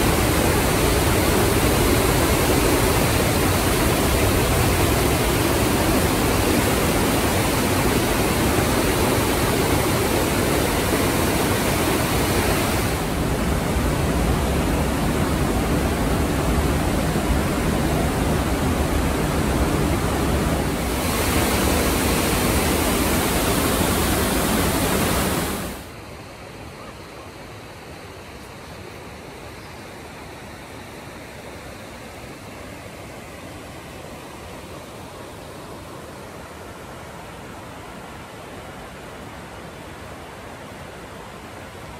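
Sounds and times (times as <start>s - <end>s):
whitewater rushing through gorge: 0.0s - 41.9s.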